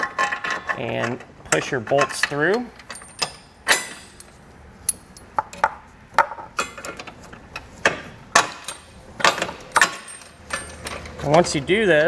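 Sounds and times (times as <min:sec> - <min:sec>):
bolts clinking against metal: 0:00.0 - 0:12.0.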